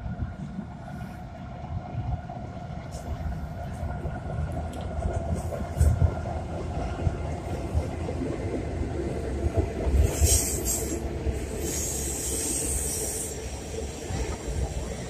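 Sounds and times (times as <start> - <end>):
freight train rumbling on trestle: 0.0 - 15.0.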